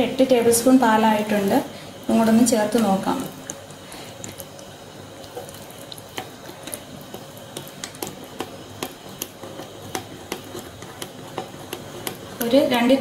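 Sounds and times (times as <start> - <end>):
wet stirring of batter: 1.2 - 13.0.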